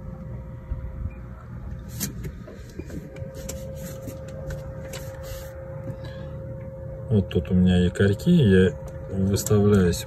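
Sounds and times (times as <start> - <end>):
boat motor humming: 0.0 - 10.0
thin steady whine: 0.0 - 10.0.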